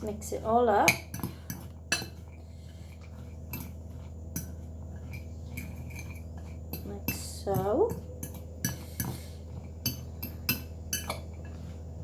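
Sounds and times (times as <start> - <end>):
stirring sticky mix in bowl: 0.0 - 12.0
utensil clinking against bowl: 0.2 - 11.7.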